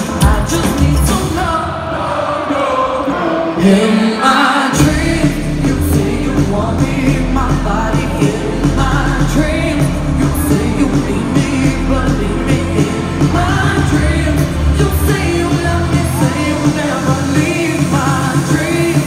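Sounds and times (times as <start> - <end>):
live pop band playing: 0.0 - 19.0.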